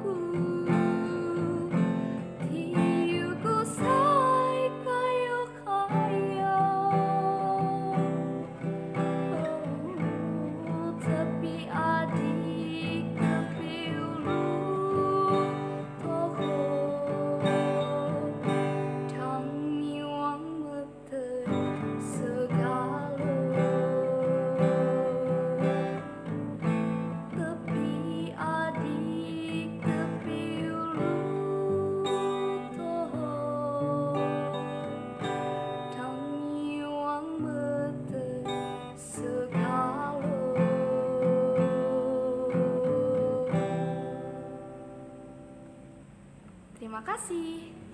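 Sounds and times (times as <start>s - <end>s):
woman singing: 0.0s - 45.6s, 46.8s - 47.9s
strummed acoustic guitar: 0.0s - 47.9s.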